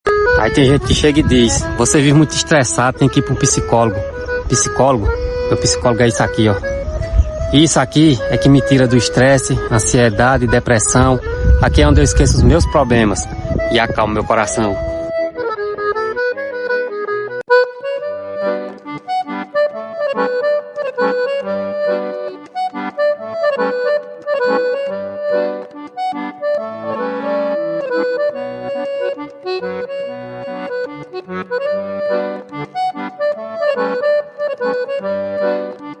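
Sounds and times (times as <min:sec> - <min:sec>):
accordion playing a tune: 0:00.1 - 0:36.0.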